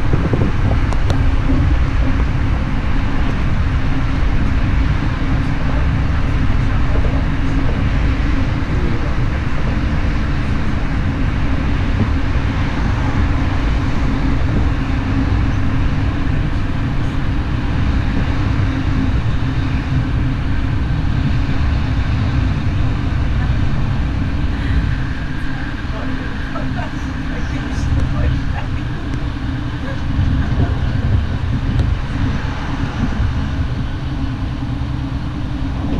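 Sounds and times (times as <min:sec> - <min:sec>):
low hum: 0:00.0 - 0:35.9
train rolling noise: 0:00.0 - 0:35.9.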